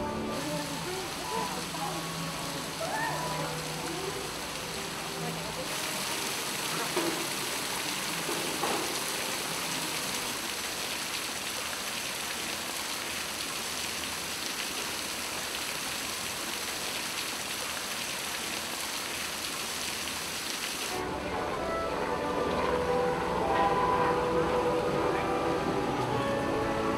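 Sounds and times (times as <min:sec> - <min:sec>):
fountain water splashing: 0:00.0 - 0:26.9.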